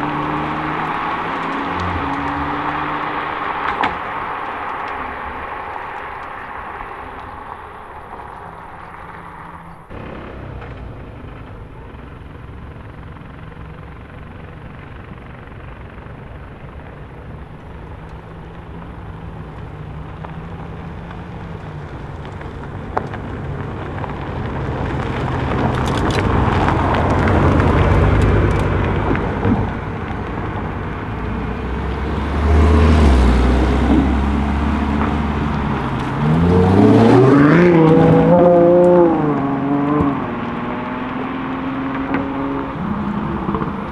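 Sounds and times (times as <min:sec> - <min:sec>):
car engine running at low revs: 0:00.0 - 0:43.9.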